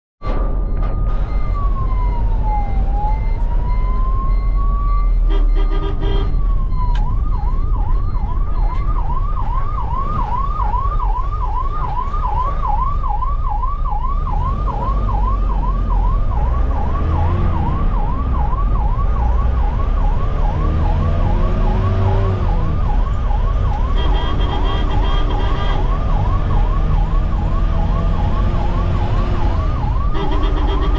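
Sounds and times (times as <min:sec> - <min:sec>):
low vehicle rumble: 0:00.2 - 0:30.9
ambulance siren wailing and yelping: 0:01.3 - 0:30.9.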